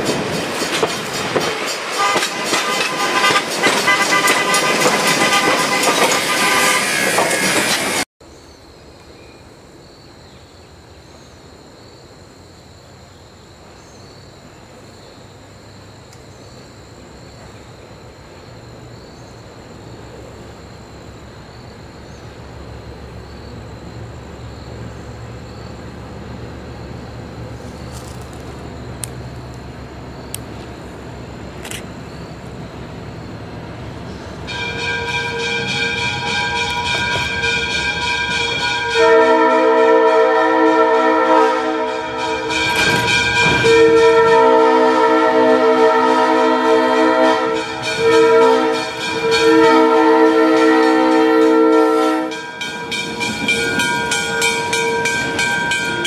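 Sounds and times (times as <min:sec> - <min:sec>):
diesel locomotive engine rumble: 0:00.0 - 0:08.0, 0:13.6 - 0:56.0
steam locomotive passing: 0:00.0 - 0:08.1, 0:16.9 - 0:56.0.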